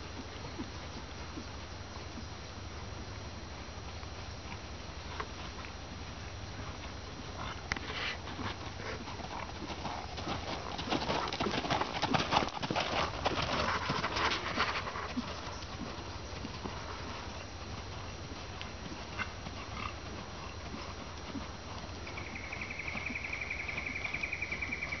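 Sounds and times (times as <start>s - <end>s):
horse hoofbeats on gravel: 3.8s - 25.0s.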